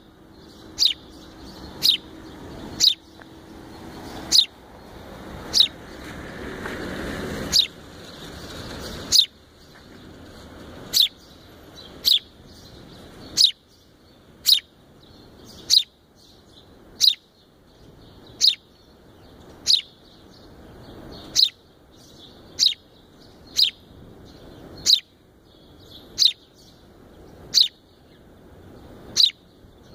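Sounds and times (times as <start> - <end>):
sparrow chirping: 0.0 - 6.2, 6.8 - 29.9
street noise hum: 0.0 - 29.9.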